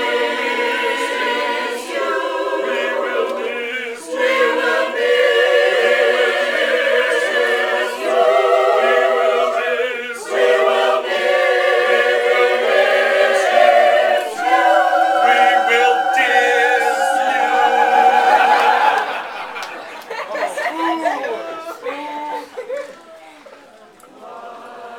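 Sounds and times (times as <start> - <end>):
choir singing in parts: 0.0 - 21.8, 24.1 - 24.9.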